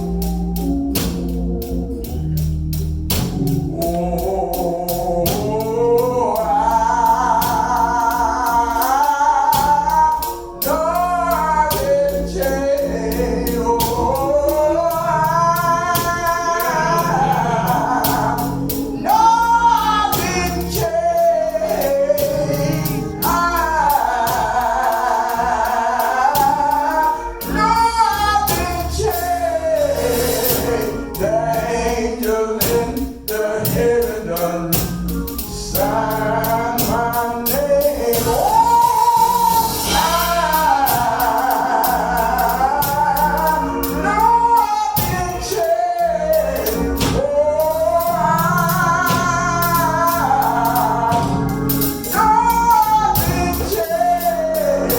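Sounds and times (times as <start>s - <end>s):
organ: 0.0s - 54.9s
steady beat: 0.0s - 54.9s
voices singing gospel: 0.0s - 54.9s.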